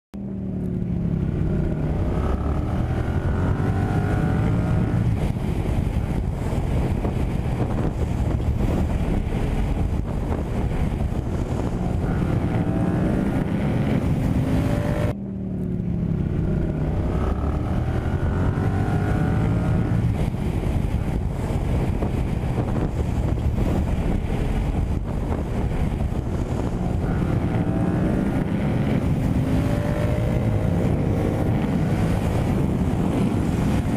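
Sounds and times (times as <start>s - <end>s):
motorcycle engine accelerating: 0.2s - 33.9s
wind noise on microphone: 0.2s - 33.9s.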